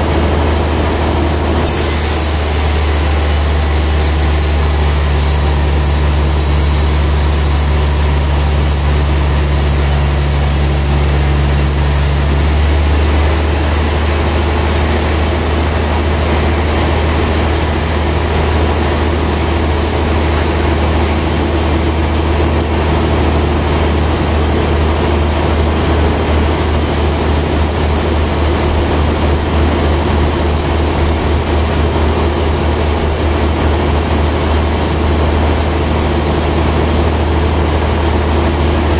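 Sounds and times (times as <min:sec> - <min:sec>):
sawmill machinery humming: 0:00.0 - 0:38.9.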